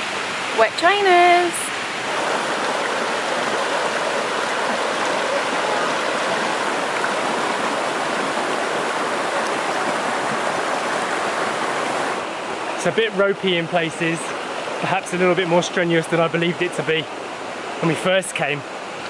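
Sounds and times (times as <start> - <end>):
stream flowing over stones: 0.0 - 19.0.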